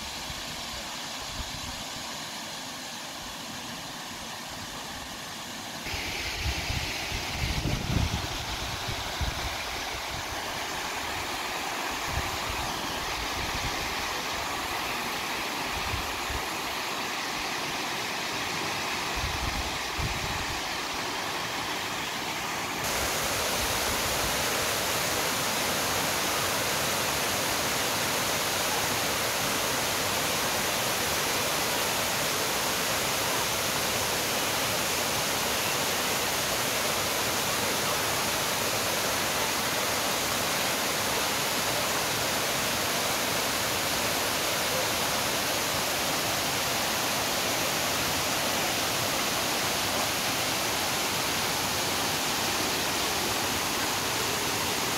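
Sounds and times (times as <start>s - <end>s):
waterfall rushing hiss: 0.0s - 54.9s.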